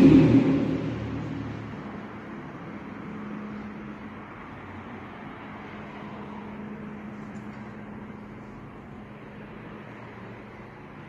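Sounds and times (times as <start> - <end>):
faint low engine hum: 0.0 - 11.0
street traffic noise: 0.0 - 11.0
vehicle passing: 0.0 - 11.0.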